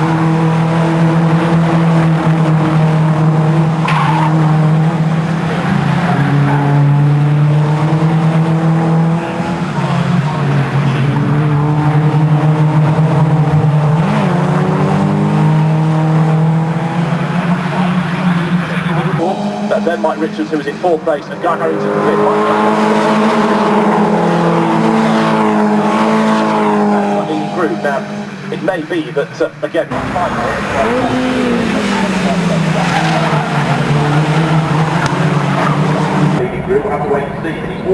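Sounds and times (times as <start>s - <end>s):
racing car engines at high revs: 0.0s - 37.9s.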